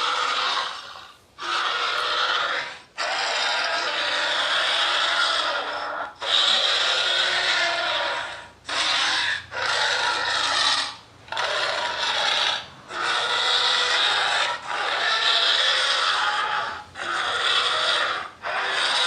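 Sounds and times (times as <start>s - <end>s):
dinosaur roars: 0.0s - 19.0s.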